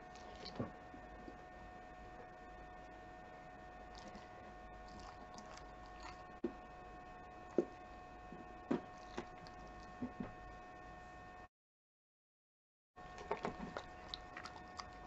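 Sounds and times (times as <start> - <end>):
faint steady hum: 0.0 - 11.5, 13.0 - 15.0.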